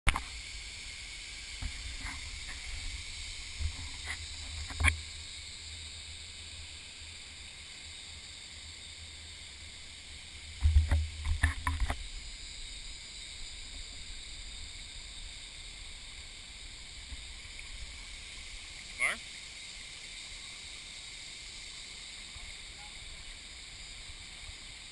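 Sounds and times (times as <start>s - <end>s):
stream flowing over rocks: 0.1s - 24.9s.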